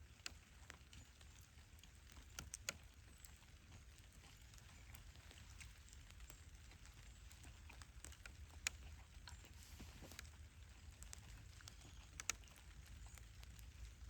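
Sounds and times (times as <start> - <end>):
faint campfire crackling: 0.0 - 14.0.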